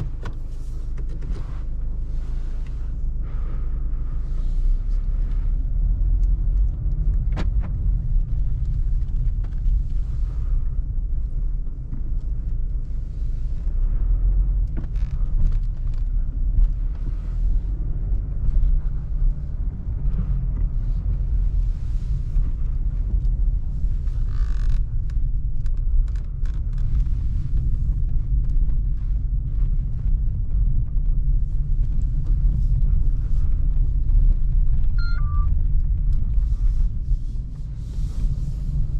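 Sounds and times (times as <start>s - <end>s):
diesel engine: 0.0s - 38.9s
road noise: 0.0s - 38.9s
wind rumble: 0.0s - 38.9s.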